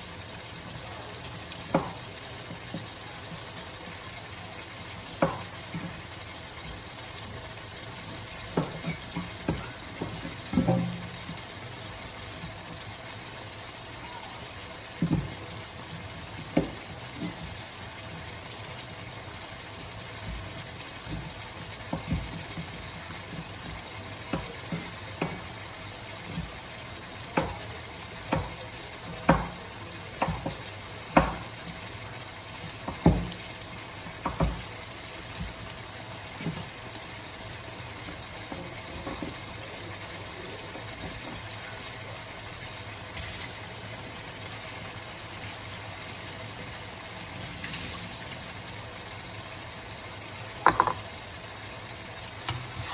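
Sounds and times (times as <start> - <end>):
chicken sizzling in oil: 0.0 - 52.9.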